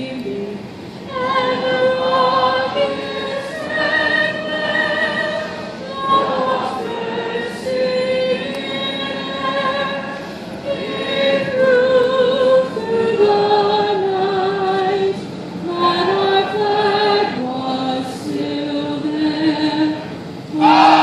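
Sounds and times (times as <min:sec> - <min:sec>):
choir singing: 0:01.1 - 0:15.1, 0:15.7 - 0:21.0.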